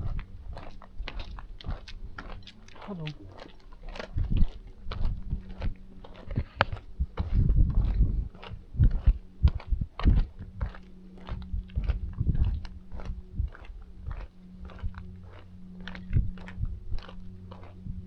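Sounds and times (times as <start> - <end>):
footsteps on a path: 0.0 - 18.0
steady low hum: 0.0 - 18.0.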